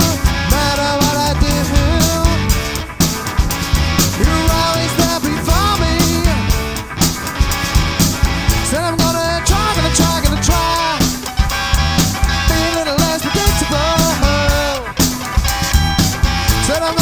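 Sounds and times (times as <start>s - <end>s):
bending guitar lines: 0.0s - 17.0s
rock band playing: 0.0s - 17.0s.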